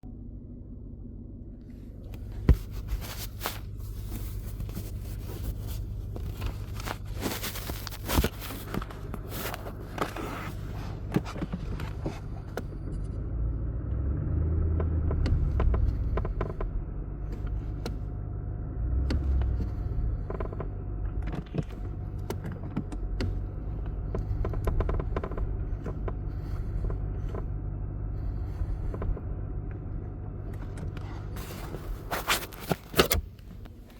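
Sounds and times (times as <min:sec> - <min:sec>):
car engine low rumble: 0:00.0 - 0:33.9
car creaks and clicks: 0:02.0 - 0:13.3, 0:13.9 - 0:18.1, 0:18.8 - 0:33.9.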